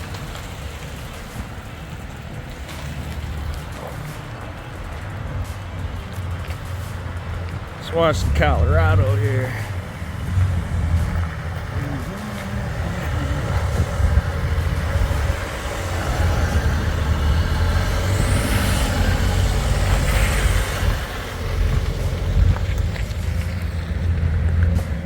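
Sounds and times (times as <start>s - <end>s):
off-road vehicle engines rumbling: 0.0s - 25.0s.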